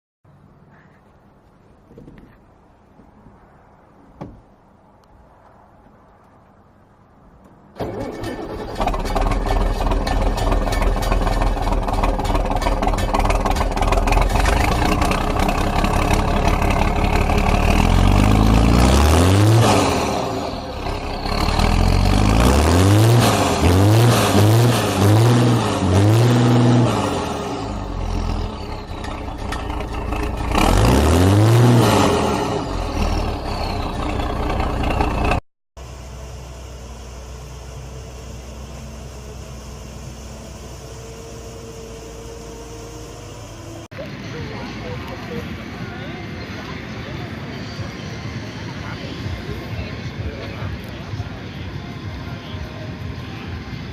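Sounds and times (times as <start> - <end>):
steady engine hum: 0.3 - 53.9
tractor engine revving: 7.7 - 53.9.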